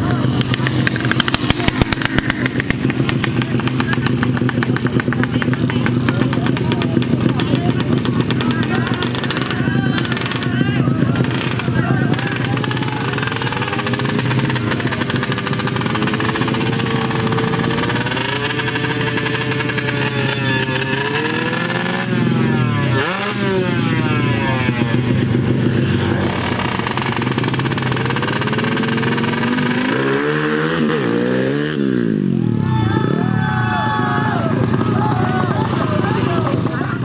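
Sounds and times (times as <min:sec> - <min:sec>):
motorcycle engines revving: 0:00.0 - 0:37.0
motorcycle passing by: 0:00.0 - 0:37.0.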